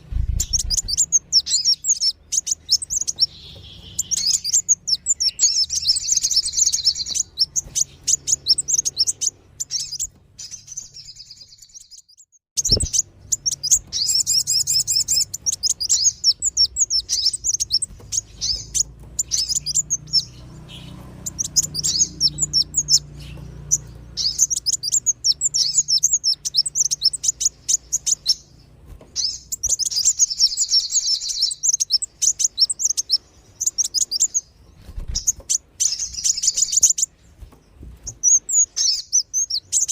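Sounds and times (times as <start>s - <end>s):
birds twittering chirps and trills: 0.0s - 39.9s.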